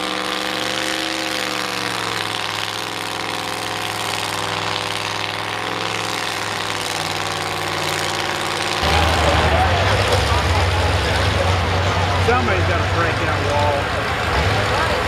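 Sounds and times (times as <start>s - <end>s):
pickup engine idling: 1.6s - 15.0s.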